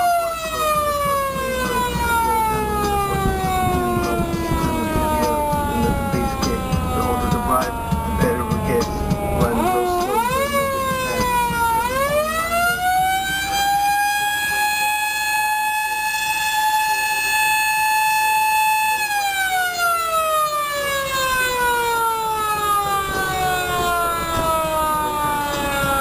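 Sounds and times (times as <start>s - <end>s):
siren wailing: 0.0s - 26.0s.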